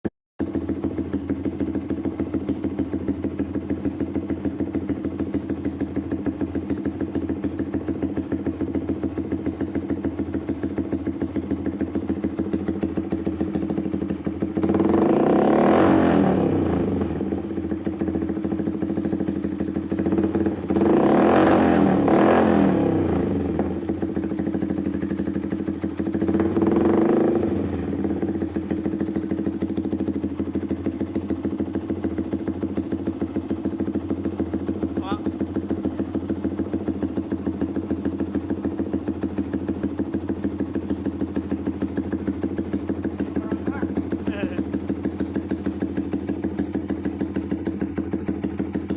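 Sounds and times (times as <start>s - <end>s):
motorcycle engine idling and revving: 0.4s - 48.9s.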